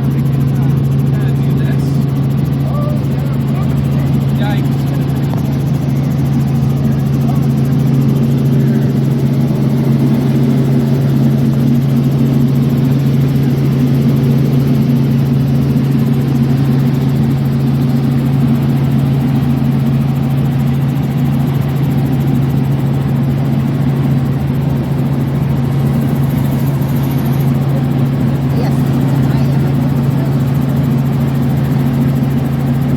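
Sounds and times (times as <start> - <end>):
aircraft engine running: 0.0 - 32.9.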